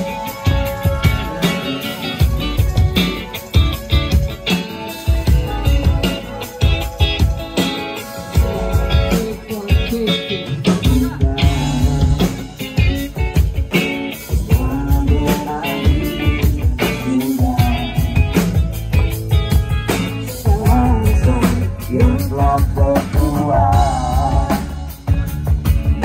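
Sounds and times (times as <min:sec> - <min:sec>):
drums: 0:00.0 - 0:26.0
electric guitar: 0:00.0 - 0:26.0.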